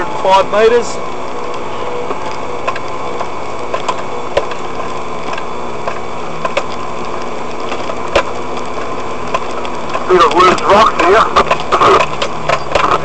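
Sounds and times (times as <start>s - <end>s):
engine running at low speed: 0.0s - 13.0s
sharp knocks and clicks: 2.1s - 13.0s.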